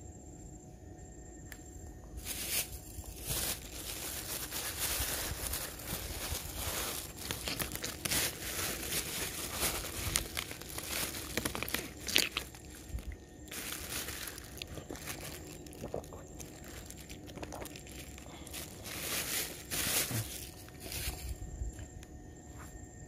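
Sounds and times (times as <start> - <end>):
crinkling and rustling handling noise: 2.0 - 22.8.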